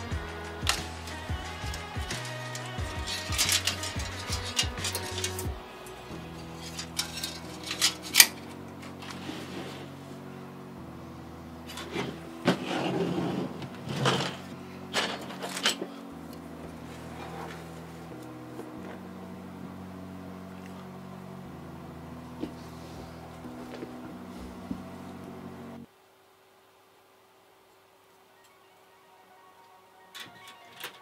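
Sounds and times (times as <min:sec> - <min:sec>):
background music of held chords: 0:00.0 - 0:25.9, 0:28.3 - 0:31.0.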